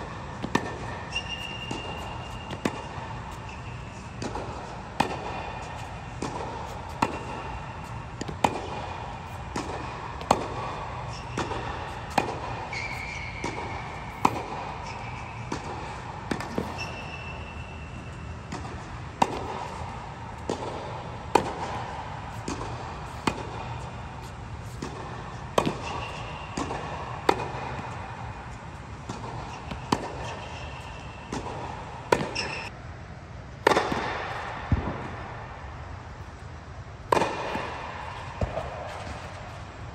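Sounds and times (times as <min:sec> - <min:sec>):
steady low hum: 0:00.0 - 0:39.9
tennis ball bouncing on court: 0:00.2 - 0:32.7, 0:33.6 - 0:35.2, 0:37.1 - 0:39.7
tennis ball struck with racket: 0:00.3 - 0:32.7, 0:33.6 - 0:34.9, 0:37.1 - 0:39.6.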